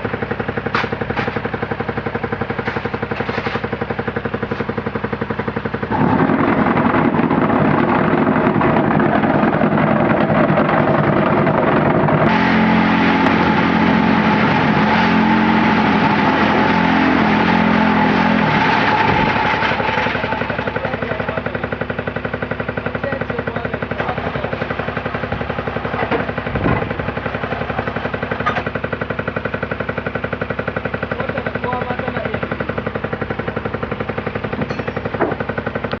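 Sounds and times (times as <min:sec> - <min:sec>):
block making machine rattling: 0:00.0 - 0:36.0
machine hum: 0:00.0 - 0:36.0.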